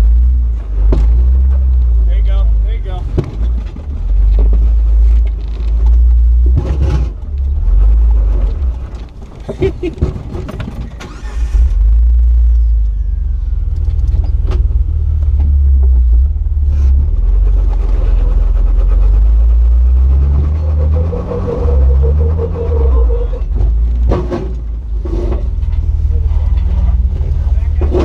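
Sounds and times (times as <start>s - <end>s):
engine running under load: 0.0s - 28.0s.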